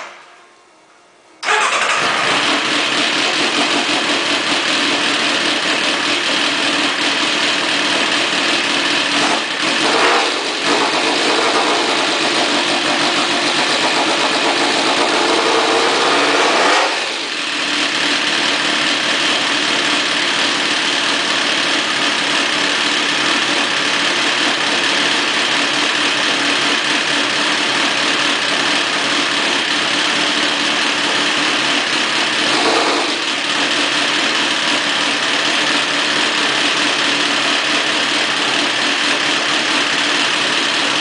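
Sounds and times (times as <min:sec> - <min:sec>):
motorcycle engine idling: 0:01.5 - 0:41.0.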